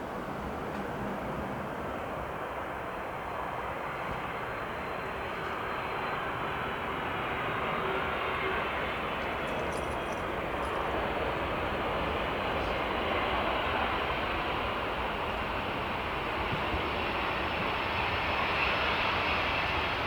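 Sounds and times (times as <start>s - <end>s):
airliner jet engines rumbling: 0.0s - 20.0s.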